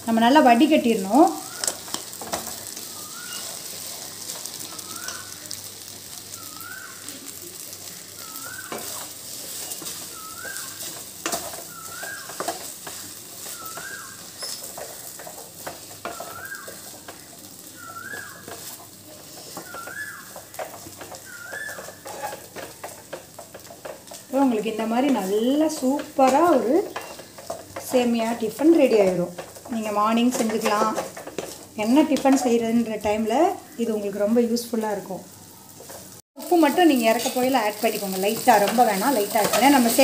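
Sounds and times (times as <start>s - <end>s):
frying sizzle: 0.0s - 40.0s
spatula scraping and knocking pan: 0.5s - 6.2s, 7.8s - 33.8s, 35.7s - 40.0s.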